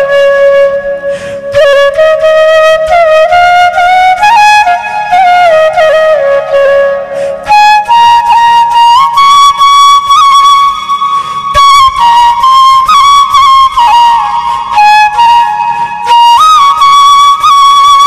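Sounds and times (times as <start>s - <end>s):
solo flute melody: 0.0s - 18.0s.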